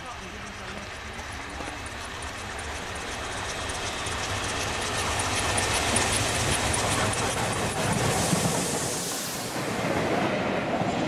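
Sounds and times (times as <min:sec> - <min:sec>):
steam locomotive approaching: 0:00.0 - 0:11.0.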